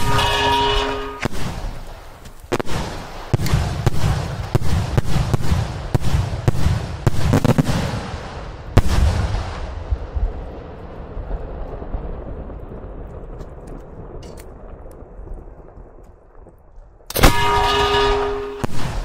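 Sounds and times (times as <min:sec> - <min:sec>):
low rumble: 0:02.9 - 0:19.0.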